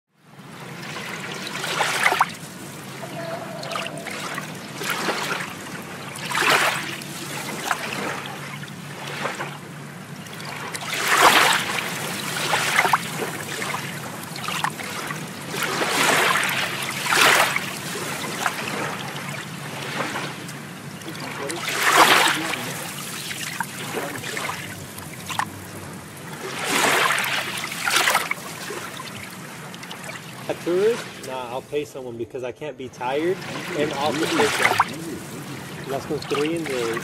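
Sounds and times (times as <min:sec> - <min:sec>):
water splashing and trickling: 0:00.4 - 0:32.0, 0:32.9 - 0:37.0.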